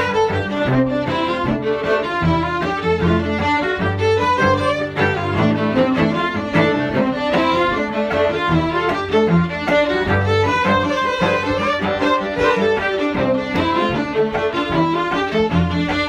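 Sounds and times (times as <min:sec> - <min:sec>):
bowed fiddle melody: 0:00.0 - 0:16.0
low cello notes: 0:00.0 - 0:16.0.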